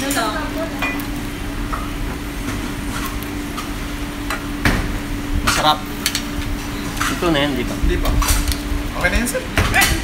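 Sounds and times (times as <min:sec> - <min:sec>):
beef sizzling on a grill: 0:00.0 - 0:10.0
fan-like hum: 0:00.0 - 0:10.0.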